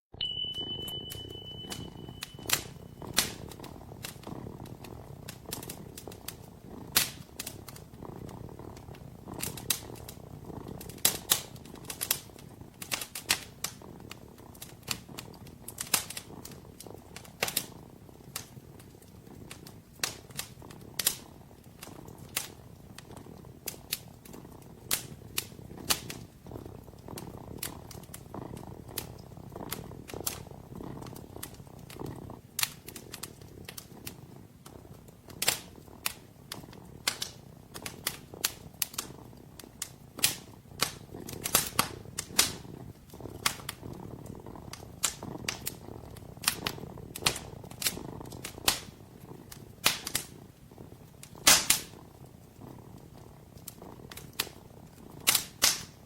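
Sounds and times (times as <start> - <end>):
fireplace fire crackling: 0.1 - 56.0
kitten purring: 0.6 - 56.0.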